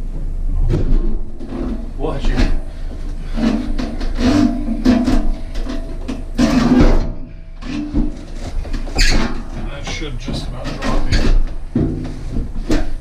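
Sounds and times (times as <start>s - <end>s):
wood creaking and scraping: 0.6s - 13.0s
heavy knocks: 2.2s - 13.0s.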